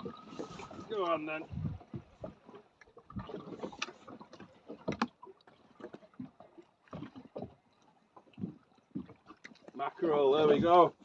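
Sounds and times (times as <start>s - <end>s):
knocks and thumps on boat: 0.0s - 11.0s
water slapping against boat hull: 0.0s - 11.0s.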